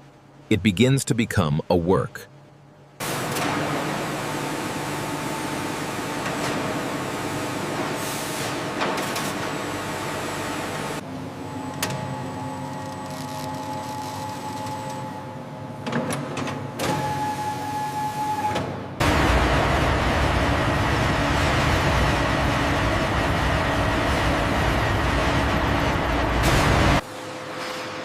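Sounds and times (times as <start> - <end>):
woodworking machine hum and whine: 3.1 - 15.7, 17.0 - 27.5.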